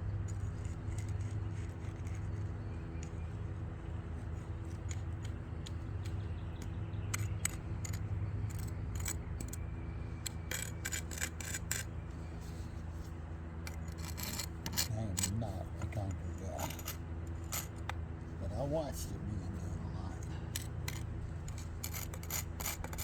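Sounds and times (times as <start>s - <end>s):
low machine hum: 0.0s - 23.0s
hand tools tapping and scraping concrete: 0.3s - 3.4s, 4.2s - 9.6s, 10.2s - 18.7s, 20.2s - 23.0s.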